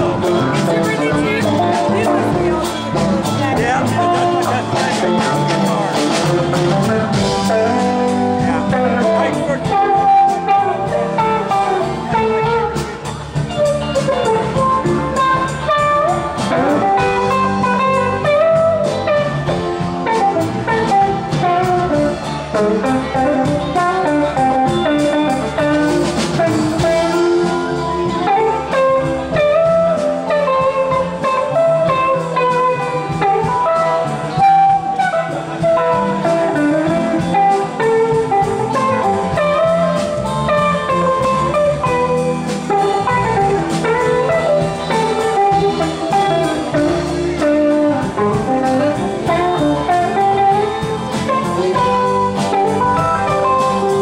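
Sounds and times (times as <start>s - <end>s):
drum kit: 0.0s - 54.0s
electric bass: 0.0s - 54.0s
electric guitar melody: 0.0s - 54.0s.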